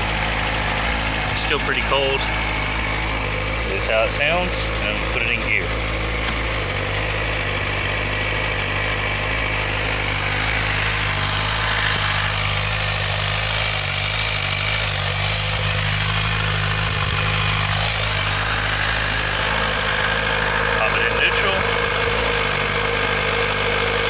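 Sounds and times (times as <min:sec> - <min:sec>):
exhaust valve chattering: 0:00.0 - 0:24.0
motorcycle engine idling: 0:00.0 - 0:24.0.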